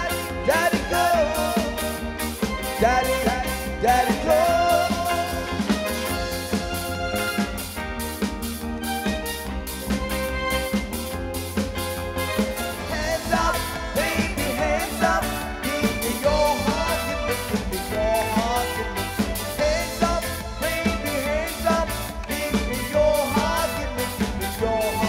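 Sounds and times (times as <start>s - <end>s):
person singing lead melody: 0.0s - 7.6s, 12.2s - 25.0s
bass guitar: 0.0s - 25.0s
drum kit beat on cymbals: 0.0s - 25.0s
keyboard: 0.0s - 25.0s.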